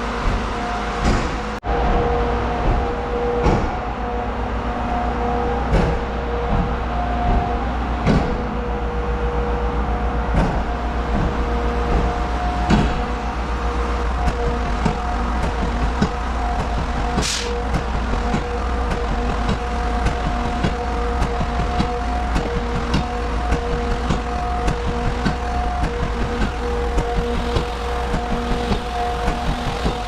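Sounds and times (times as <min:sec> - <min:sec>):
heavy vehicle engine running: 0:00.0 - 0:30.0.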